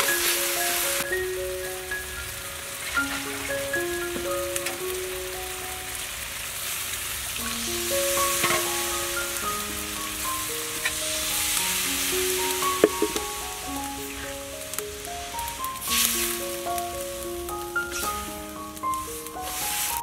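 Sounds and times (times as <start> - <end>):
soft background music: 0.0 - 6.3, 7.4 - 20.0
porridge sizzling in a wok: 0.0 - 20.0.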